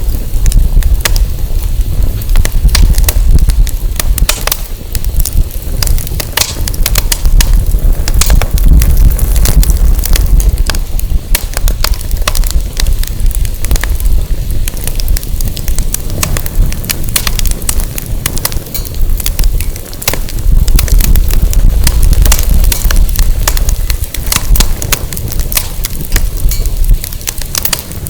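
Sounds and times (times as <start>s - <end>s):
wind rumble: 0.0s - 28.0s
wood fire crackling and popping: 0.0s - 28.0s.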